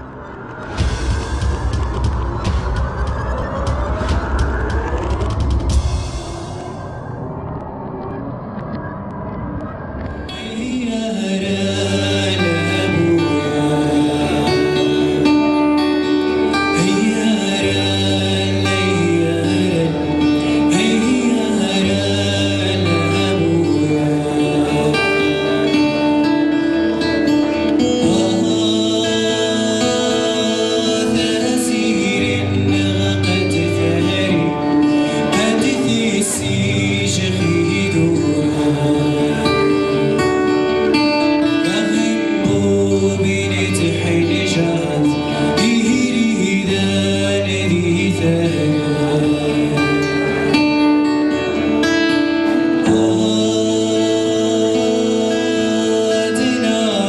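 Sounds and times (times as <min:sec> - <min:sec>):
acoustic guitar chords: 0:00.0 - 0:07.8, 0:09.8 - 0:57.0
man singing: 0:10.3 - 0:57.0.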